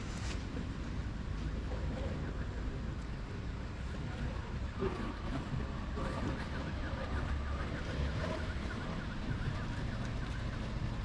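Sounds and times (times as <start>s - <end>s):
low rumble of street noise: 0.0s - 11.0s.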